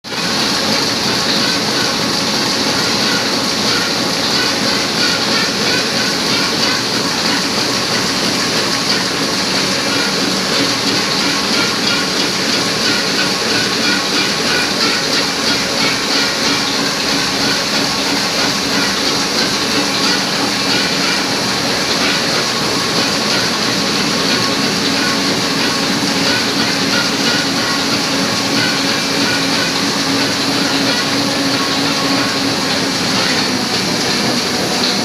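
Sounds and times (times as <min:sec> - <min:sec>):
printing press clattering: 0:00.1 - 0:35.0.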